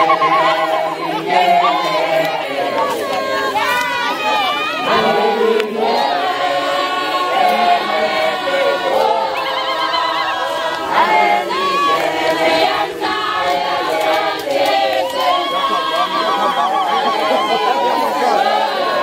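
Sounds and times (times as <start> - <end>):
crowd singing unaccompanied: 0.0 - 19.0.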